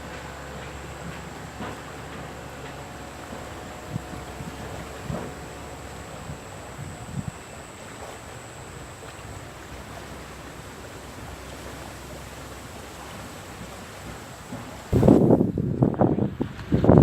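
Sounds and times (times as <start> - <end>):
river current rushing: 0.0 - 15.4.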